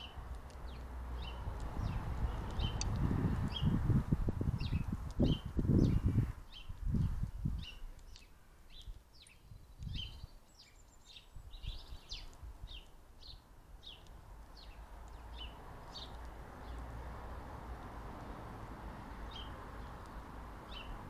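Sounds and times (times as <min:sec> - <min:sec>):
songbird chirping: 0:00.0 - 0:03.9, 0:04.5 - 0:21.0.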